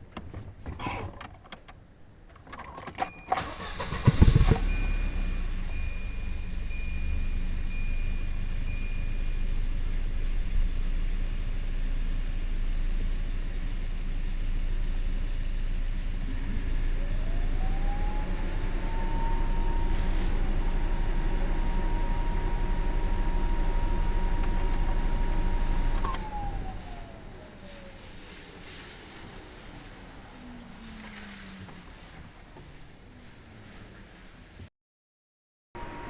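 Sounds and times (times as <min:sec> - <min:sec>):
car engine idling: 0:03.4 - 0:34.0.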